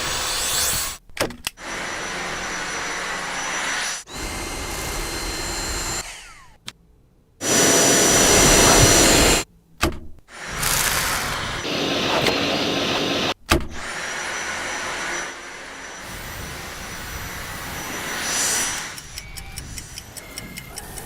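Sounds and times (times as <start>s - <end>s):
handheld vacuum motor whining: 1.6s - 6.6s, 7.4s - 9.4s, 10.4s - 21.0s.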